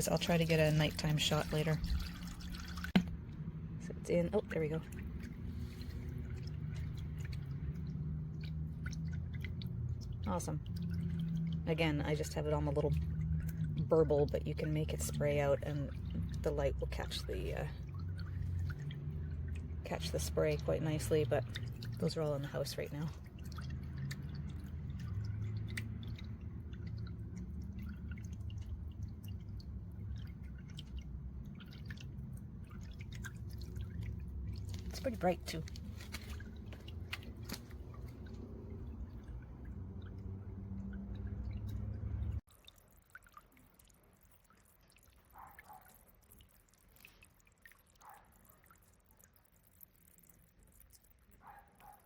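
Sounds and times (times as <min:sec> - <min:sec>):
low steady hum: 0:00.0 - 0:45.7
water burbling from fountain pump: 0:00.0 - 0:52.0
water drips and splashes: 0:00.0 - 0:52.0.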